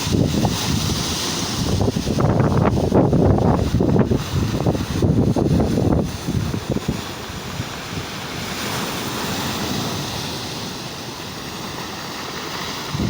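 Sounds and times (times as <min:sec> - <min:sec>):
wind buffeting microphone: 0:00.0 - 0:10.5, 0:12.7 - 0:13.0
waves breaking: 0:00.0 - 0:13.0.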